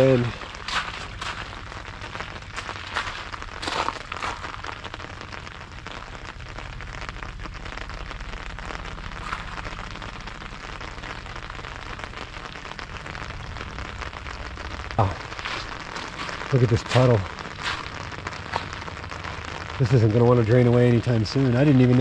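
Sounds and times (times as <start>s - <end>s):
rain pattering on an umbrella: 0.0s - 22.0s.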